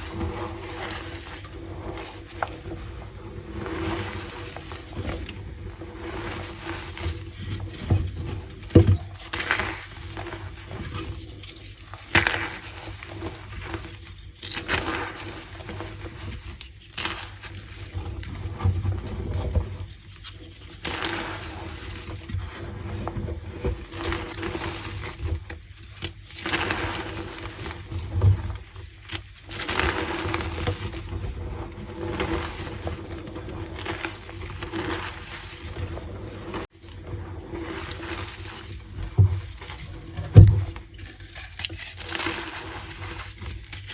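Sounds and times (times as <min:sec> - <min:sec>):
chalk crumbling and squeaking: 0:03.5 - 0:23.1, 0:23.7 - 0:37.0, 0:37.6 - 0:43.9.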